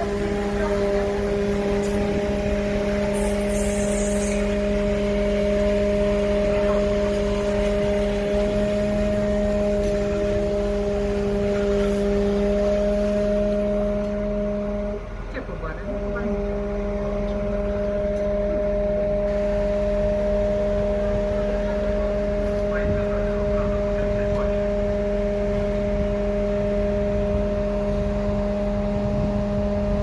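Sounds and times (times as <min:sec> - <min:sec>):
fire truck humming drone: 0:00.0 - 0:30.0.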